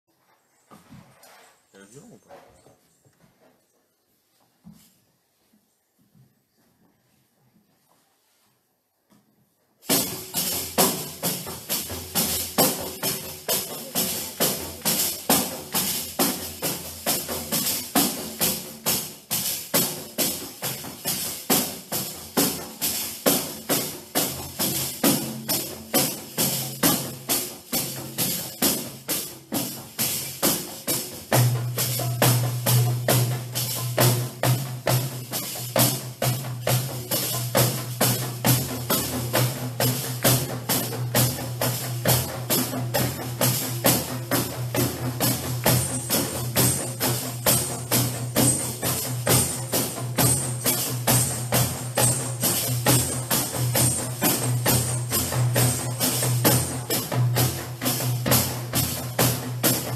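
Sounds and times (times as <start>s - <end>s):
frame drums beating: 9.8s - 59.9s
tambourines jingling: 9.8s - 59.9s.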